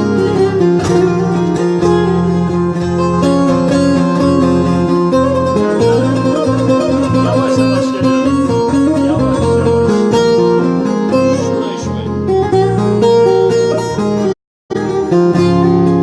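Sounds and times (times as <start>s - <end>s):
plucked lute melody: 0.0s - 16.0s.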